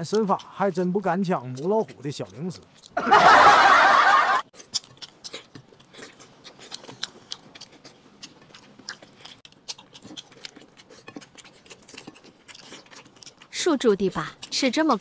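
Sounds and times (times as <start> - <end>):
person chewing crunchy snack: 0.0 - 15.0.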